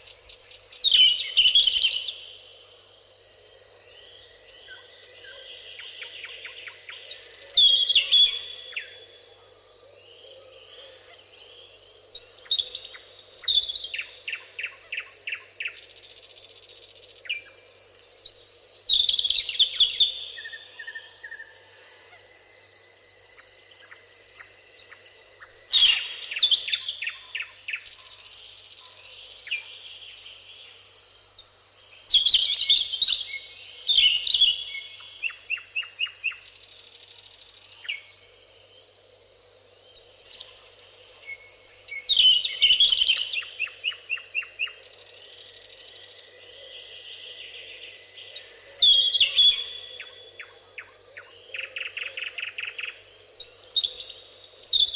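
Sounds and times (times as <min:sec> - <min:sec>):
songbird song with fast trill: 0:00.0 - 0:54.9.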